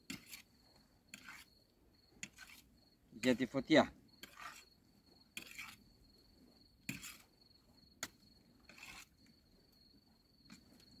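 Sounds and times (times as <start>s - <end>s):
cricket trill: 0.0s - 11.0s.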